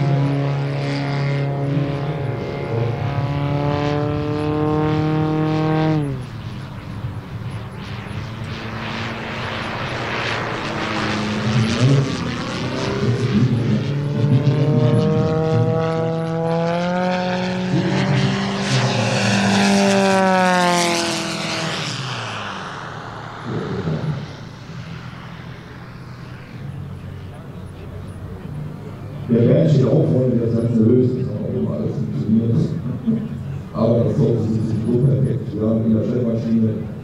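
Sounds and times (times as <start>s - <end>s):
model plane engine and propeller: 0.0s - 37.0s.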